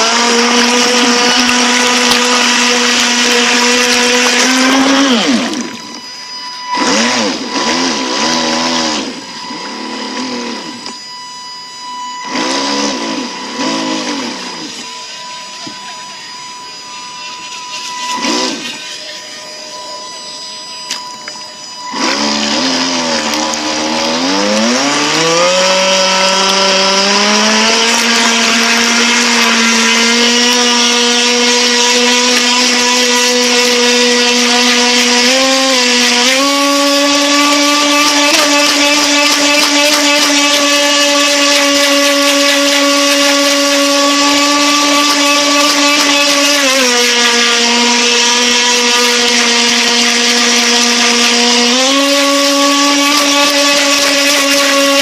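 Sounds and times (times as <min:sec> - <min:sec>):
electric motor whining: 0:00.0 - 0:55.0.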